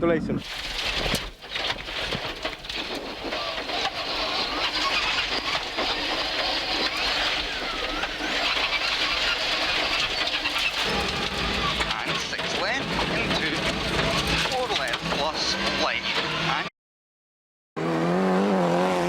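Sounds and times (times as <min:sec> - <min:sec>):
car engine revving: 0:00.4 - 0:16.7, 0:17.8 - 0:19.0
road and tyre noise: 0:00.4 - 0:16.7, 0:17.8 - 0:19.0.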